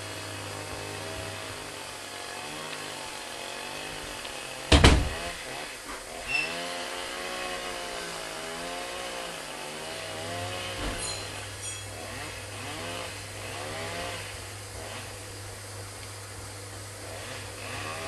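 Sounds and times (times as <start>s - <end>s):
chainsaw cutting branches: 0.0s - 18.0s.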